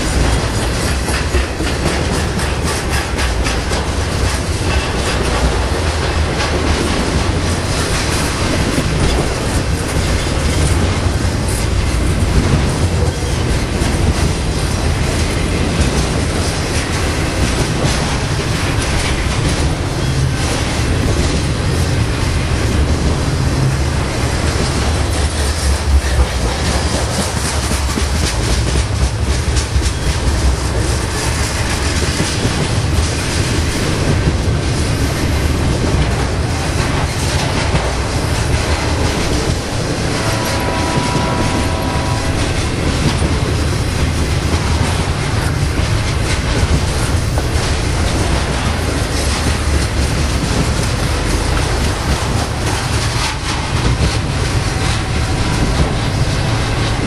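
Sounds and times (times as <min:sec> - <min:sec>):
freight train rumbling: 0:00.0 - 0:57.0
wheels clacking over rail joints: 0:00.0 - 0:57.0.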